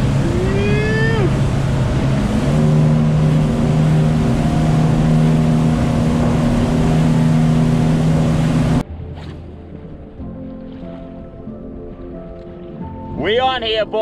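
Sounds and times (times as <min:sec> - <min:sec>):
motorboat engine hum: 0:00.0 - 0:14.0
rushing wind and water: 0:00.0 - 0:14.0.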